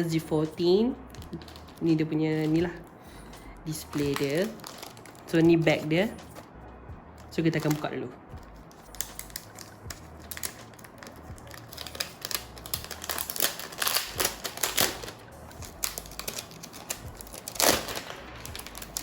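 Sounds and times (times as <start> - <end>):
plastic wrapping crinkling: 0.9 - 2.8, 3.7 - 6.5, 7.2 - 19.0.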